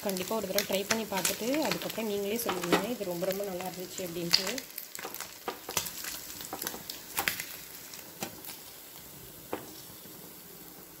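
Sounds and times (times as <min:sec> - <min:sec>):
oil crackling and popping: 0:00.0 - 0:11.0
oil sizzling in a frying pan: 0:00.0 - 0:11.0.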